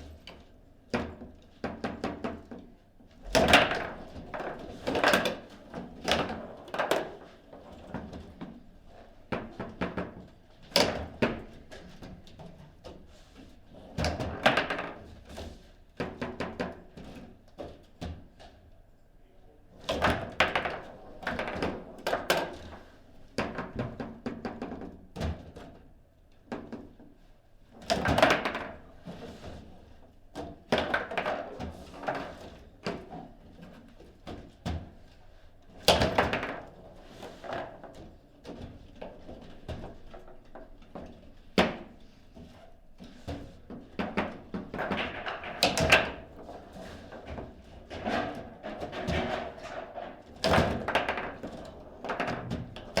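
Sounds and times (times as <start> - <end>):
foosball ball thunks and clacks: 0.1 - 18.7, 19.8 - 53.0.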